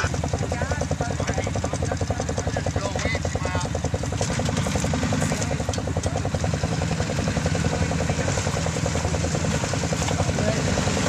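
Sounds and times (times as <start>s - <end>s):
vehicle engines running: 0.0s - 11.0s.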